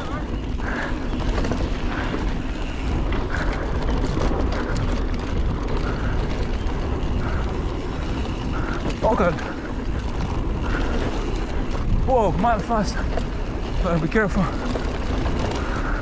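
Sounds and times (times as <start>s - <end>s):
bike clicks and rattles: 0.0s - 16.0s
bike tyres rolling on dirt: 0.0s - 16.0s
wind buffeting microphone: 0.0s - 16.0s.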